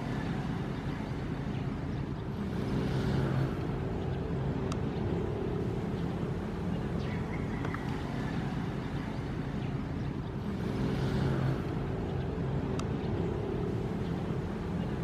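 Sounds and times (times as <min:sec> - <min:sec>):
ocean waves rumbling: 0:00.0 - 0:15.0.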